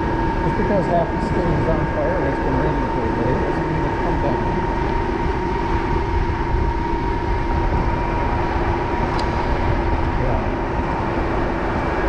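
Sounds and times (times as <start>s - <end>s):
motorcycle whine: 0.0s - 12.0s
wind and road noise: 0.0s - 12.0s.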